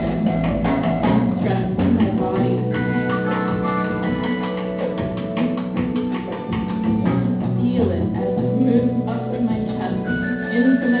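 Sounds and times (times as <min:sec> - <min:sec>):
plucked lap string instrument: 0:00.0 - 0:11.0.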